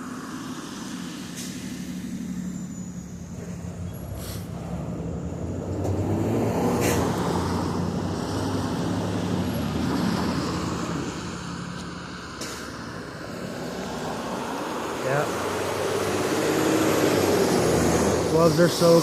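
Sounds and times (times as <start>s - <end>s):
low engine hum: 0.0s - 19.0s
vehicle passing: 0.0s - 19.0s.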